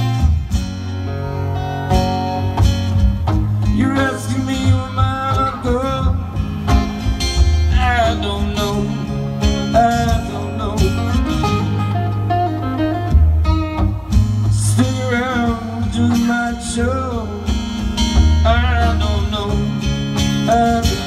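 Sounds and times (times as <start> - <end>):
picked guitar lead melody: 0.0 - 21.0
strummed acoustic guitar chords: 0.0 - 21.0.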